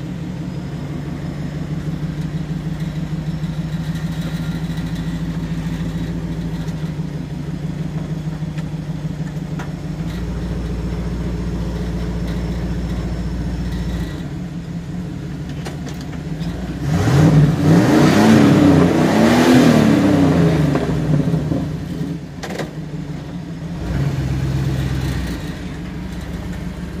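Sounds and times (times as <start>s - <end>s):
vehicle engine revving: 0.0s - 22.4s, 23.0s - 27.0s.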